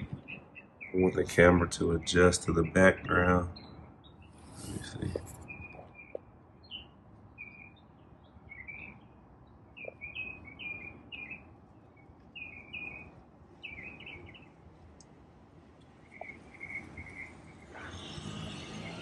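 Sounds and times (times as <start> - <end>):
faint outdoor hiss: 0.0 - 19.0
small birds chirping: 0.0 - 19.0.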